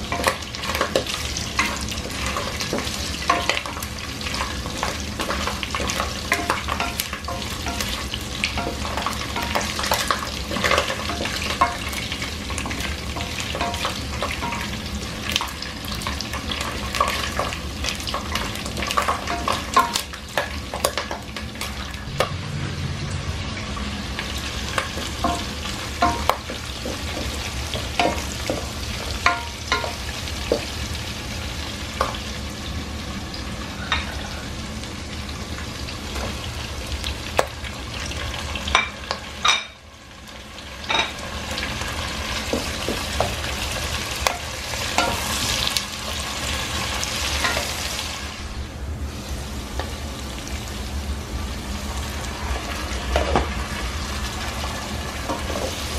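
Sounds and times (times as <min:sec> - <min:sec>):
vegetables sizzling in hot oil: 0:00.0 - 0:22.2, 0:23.6 - 0:55.9.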